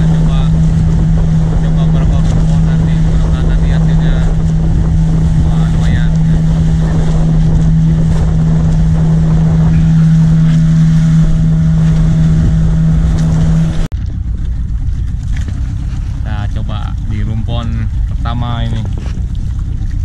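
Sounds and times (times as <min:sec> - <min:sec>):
motorboat engine humming: 0:00.0 - 0:20.0
wind on microphone: 0:00.0 - 0:20.0.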